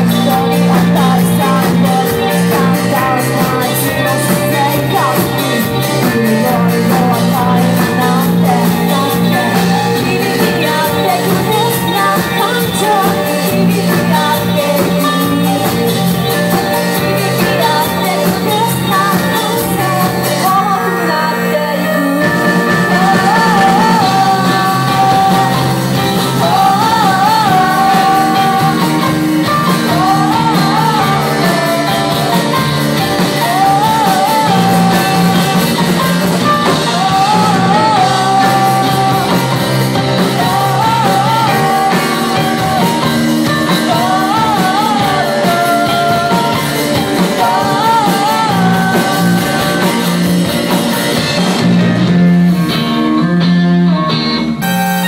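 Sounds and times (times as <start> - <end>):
drums: 0.0 - 55.0
electric guitar: 0.0 - 55.0
keyboard: 0.0 - 55.0
woman singing lead: 0.0 - 55.0.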